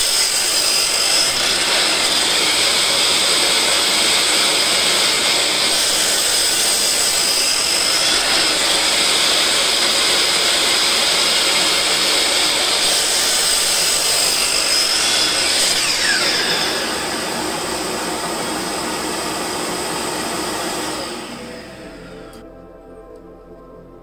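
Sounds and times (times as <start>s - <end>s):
miter saw cutting log: 0.0s - 22.4s.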